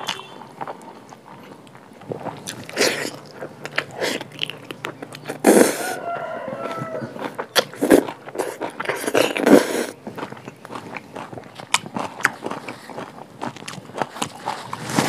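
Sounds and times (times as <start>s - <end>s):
crisp crunching and chewing: 0.0s - 15.0s.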